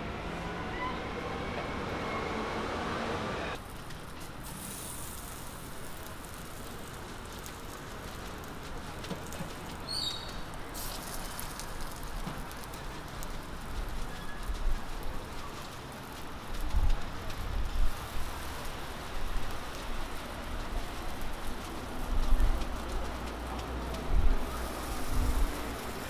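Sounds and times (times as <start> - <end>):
pancakes sizzling on griddle: 3.6 - 26.0.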